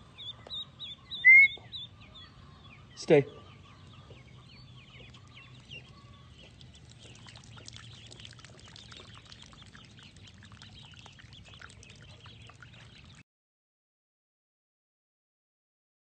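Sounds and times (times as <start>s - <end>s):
ducklings peeping: 0.0s - 13.2s.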